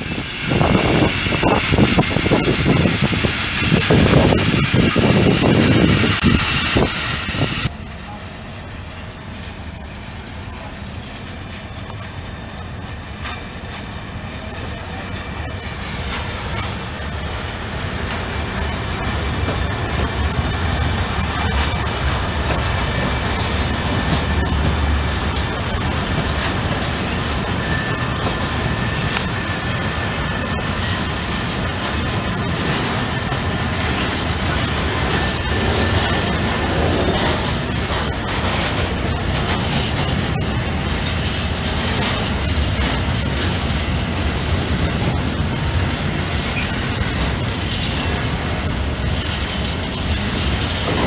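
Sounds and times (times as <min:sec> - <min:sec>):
rail clicks: 0:00.0 - 0:51.0
train wheels rumbling on rails: 0:00.0 - 0:51.0.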